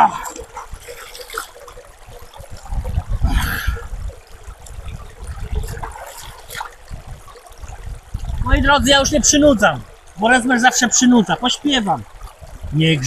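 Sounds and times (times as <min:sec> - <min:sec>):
stream trickling over stones: 0:00.0 - 0:13.0
water splashing: 0:00.0 - 0:13.0.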